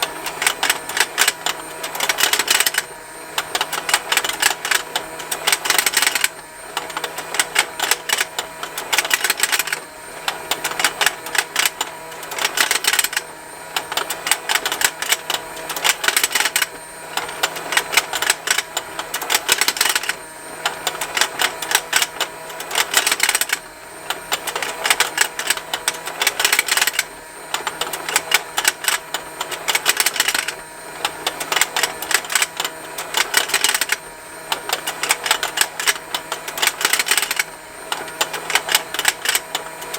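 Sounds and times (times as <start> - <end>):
rapid plastic ticking: 0.0 - 9.8, 10.5 - 13.2, 13.8 - 23.6, 24.2 - 34.0, 34.6 - 39.9
small toy motor humming: 0.0 - 39.9.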